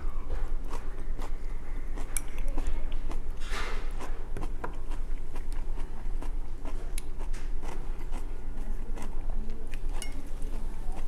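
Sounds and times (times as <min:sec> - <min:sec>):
man chewing food: 0:00.0 - 0:11.0
steady low hum: 0:00.0 - 0:11.0.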